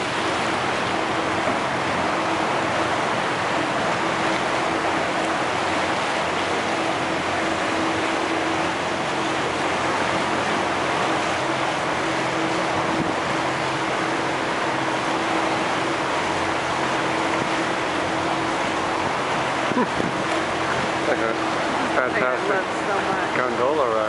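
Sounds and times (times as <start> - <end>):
boat motor humming: 0.0 - 24.0
water rushing along hull: 0.0 - 24.0.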